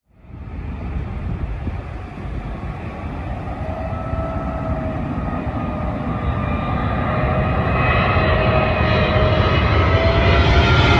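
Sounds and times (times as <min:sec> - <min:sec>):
jet engine rumble: 0:00.1 - 0:10.9
whining fan tones: 0:00.2 - 0:10.9.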